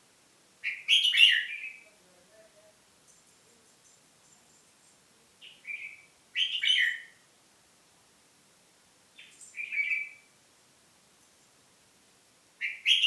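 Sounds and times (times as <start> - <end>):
songbird chirping: 0.6 - 13.0.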